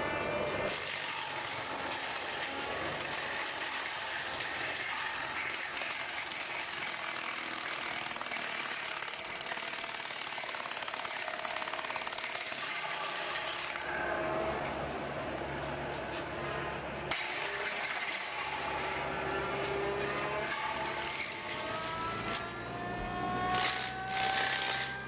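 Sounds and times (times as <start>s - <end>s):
machinery rattling and grinding: 0.0s - 25.0s.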